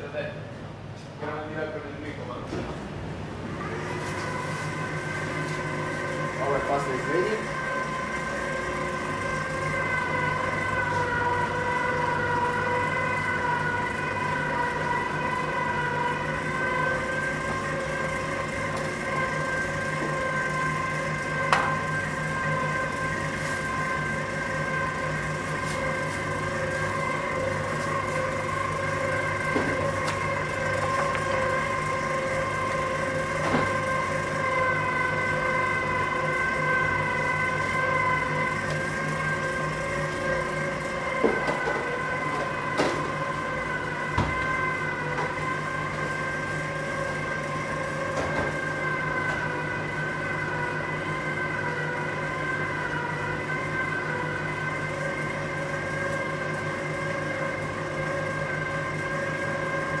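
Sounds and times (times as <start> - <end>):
pasta machine motor whine: 1.3 - 60.0.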